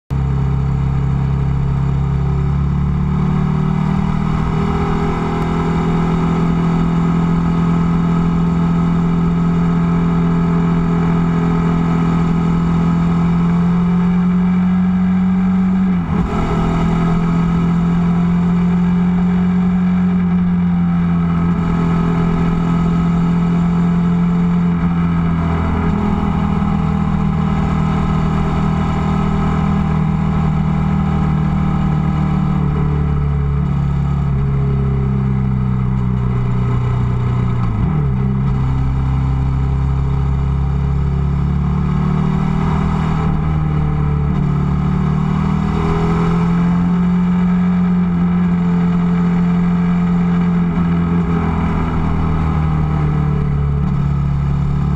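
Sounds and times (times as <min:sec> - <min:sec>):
motorcycle engine cruising: 0:00.1 - 0:54.9.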